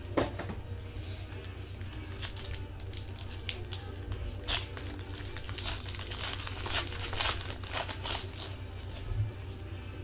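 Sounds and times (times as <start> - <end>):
wrappers torn and crinkled: 1.3 - 9.7.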